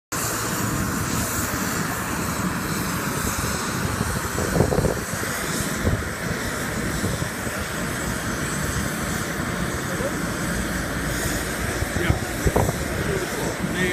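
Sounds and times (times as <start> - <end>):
aircraft engine noise: 0.1 - 13.9.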